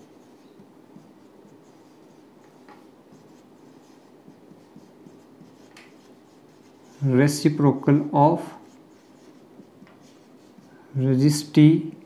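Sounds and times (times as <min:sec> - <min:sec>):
marker writing on whiteboard: 0:00.0 - 0:11.6.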